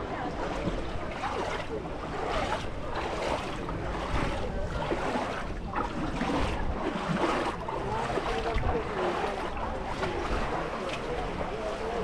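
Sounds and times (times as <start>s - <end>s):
people chattering: 0.0s - 12.0s
water washing over sand: 0.0s - 12.0s.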